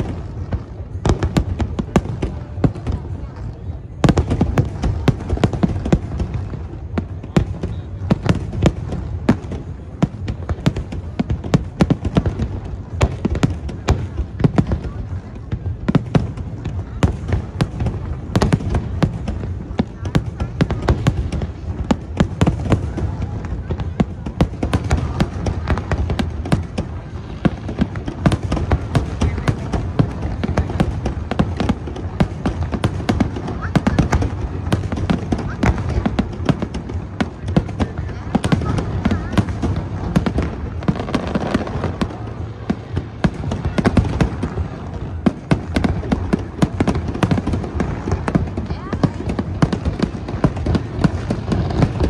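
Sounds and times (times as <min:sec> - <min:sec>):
continuous low rumble: 0:00.0 - 0:52.0
fireworks bursting: 0:00.0 - 0:52.0.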